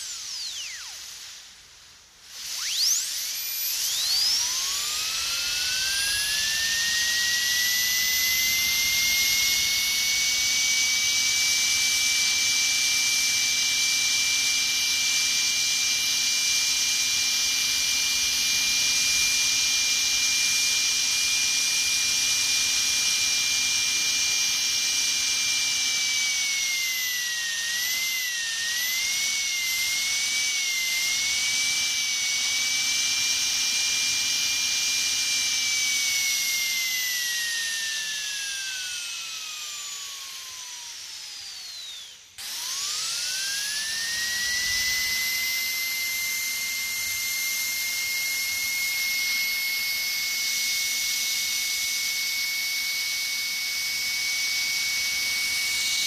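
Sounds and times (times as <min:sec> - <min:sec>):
dentist's drill whining: 0:00.0 - 0:01.6, 0:02.2 - 0:56.0.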